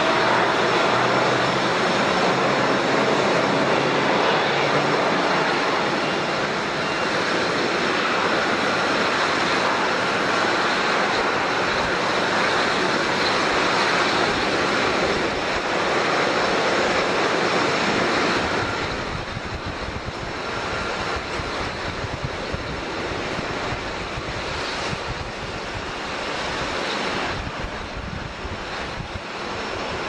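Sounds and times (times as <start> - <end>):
airliner engines running: 0.0 - 30.0.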